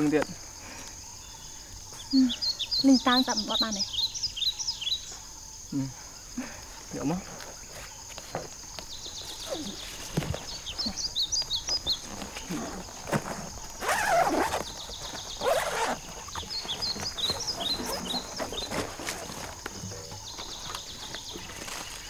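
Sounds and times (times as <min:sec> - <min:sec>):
high insect drone: 0:00.0 - 0:22.0
bird chirps: 0:00.8 - 0:05.9, 0:06.6 - 0:22.0.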